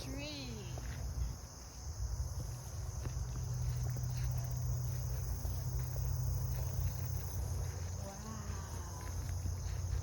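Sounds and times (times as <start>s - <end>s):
insects chirring: 0.0s - 10.0s
light footsteps on trail: 0.0s - 10.0s.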